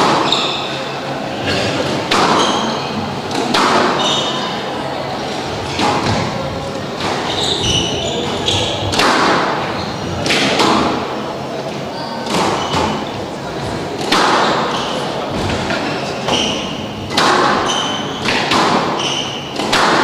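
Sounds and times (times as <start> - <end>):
squash ball hits echoing: 0.0 - 0.7, 1.4 - 4.6, 5.2 - 11.3, 12.2 - 20.0
sneakers squeaking on wooden floor: 0.0 - 4.6, 5.4 - 9.0, 9.6 - 11.3, 12.3 - 19.8.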